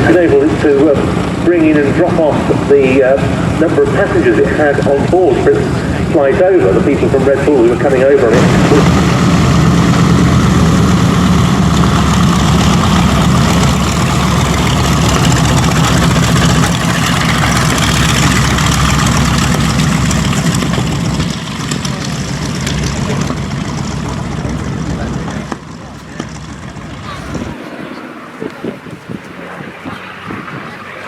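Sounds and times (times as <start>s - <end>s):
piston aircraft engines droning: 0.0s - 31.0s.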